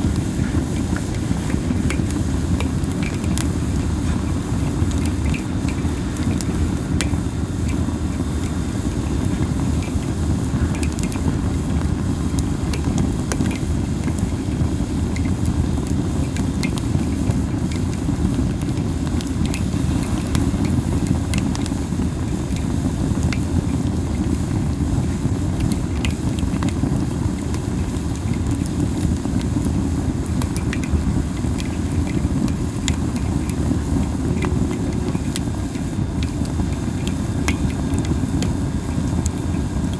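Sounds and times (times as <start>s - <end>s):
campfire crackling: 0.0s - 39.9s
low fire rumble: 0.0s - 39.9s.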